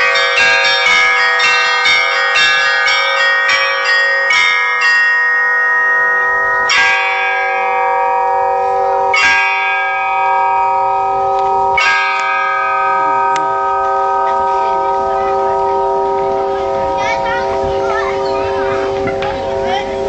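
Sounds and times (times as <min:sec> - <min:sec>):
bells ringing: 0:00.0 - 0:20.0.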